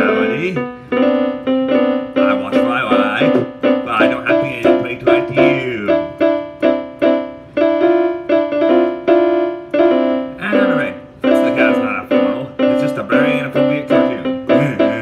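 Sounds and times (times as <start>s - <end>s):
piano chords at steady pulse: 0.0s - 15.0s.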